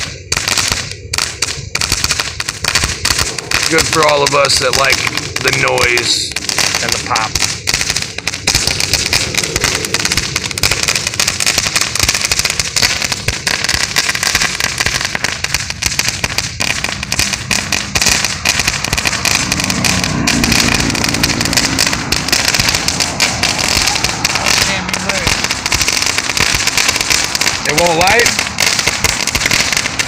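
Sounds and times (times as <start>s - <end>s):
ground firework crackling: 0.0s - 30.0s.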